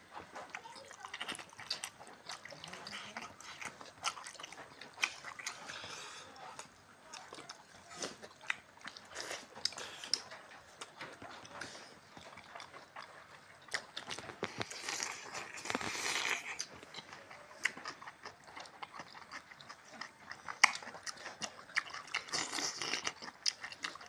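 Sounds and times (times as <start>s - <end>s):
people chewing and lip-smacking: 0.0s - 24.0s.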